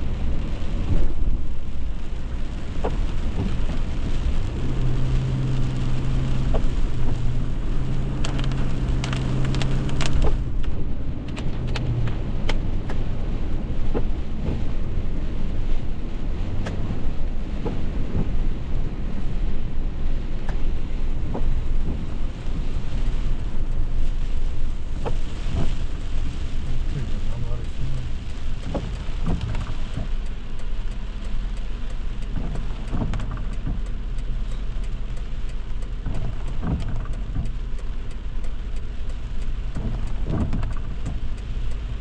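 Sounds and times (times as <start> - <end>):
heavy rain drumming on a car: 0.0 - 42.0
low rumble: 0.0 - 42.0.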